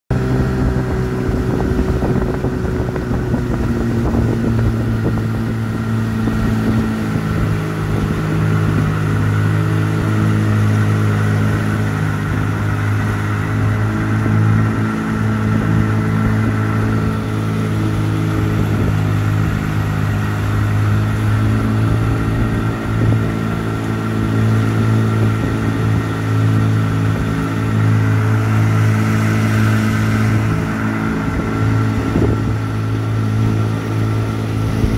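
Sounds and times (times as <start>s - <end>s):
outboard motor running: 0.1s - 34.9s.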